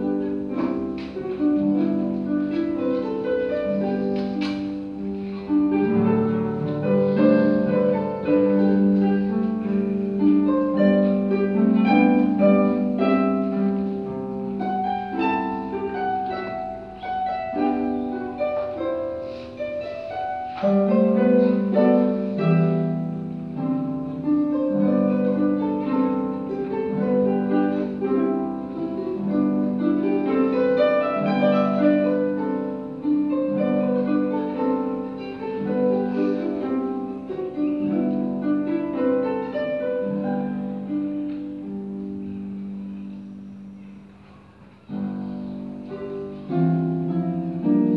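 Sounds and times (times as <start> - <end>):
harp playing: 0.0 - 47.9.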